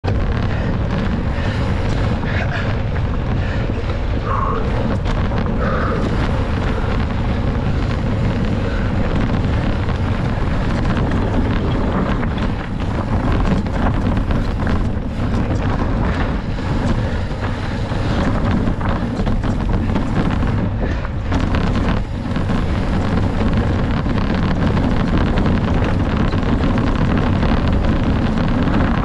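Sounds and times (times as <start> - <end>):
bike knocks and rattles: 0.0 - 29.0
tyres rumbling on rough ground: 0.0 - 29.0
wind buffeting microphone: 0.0 - 29.0.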